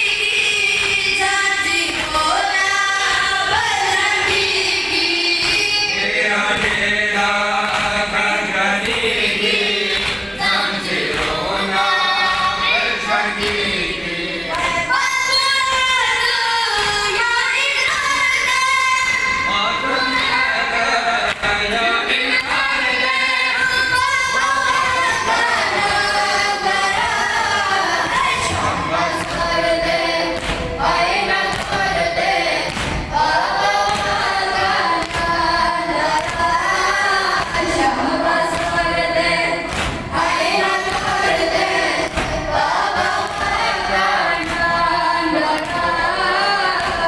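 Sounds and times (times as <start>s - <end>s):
boys chanting in unison: 0.0s - 47.0s.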